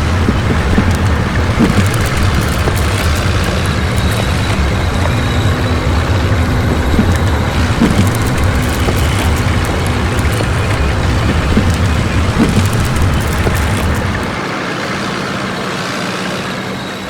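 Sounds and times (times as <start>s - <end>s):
faint steady hum: 0.0s - 14.4s
heavy machine engine rumbling: 0.0s - 17.0s.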